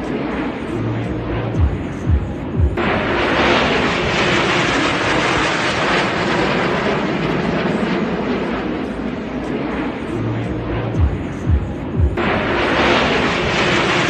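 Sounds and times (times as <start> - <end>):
jet engines flying overhead: 0.0 - 14.0.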